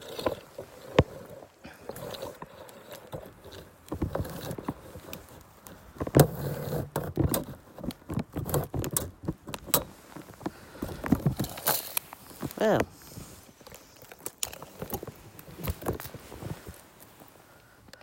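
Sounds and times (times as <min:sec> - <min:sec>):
crunching and scraping in snow: 0:00.0 - 0:17.9.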